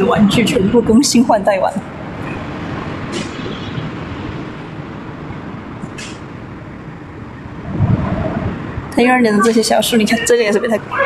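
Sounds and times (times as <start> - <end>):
steady rumbling: 0.0 - 11.0.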